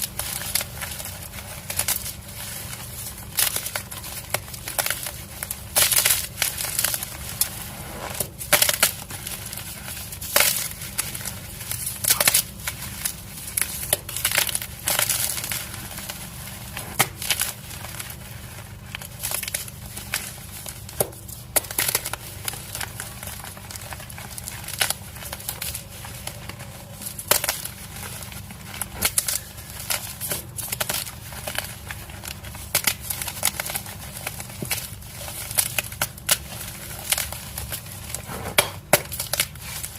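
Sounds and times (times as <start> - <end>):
chalk crunching and crumbling: 0.0 - 39.9.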